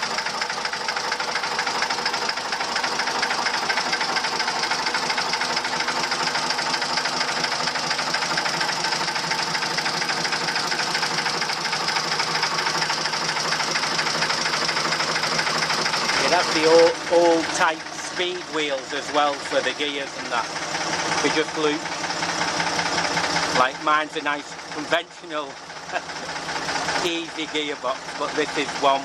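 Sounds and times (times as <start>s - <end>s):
diesel engine clattering: 0.0s - 29.0s.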